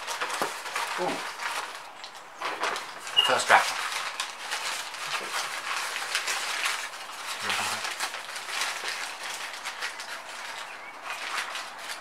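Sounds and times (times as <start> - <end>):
newspaper crinkling and rustling: 0.0 - 12.0.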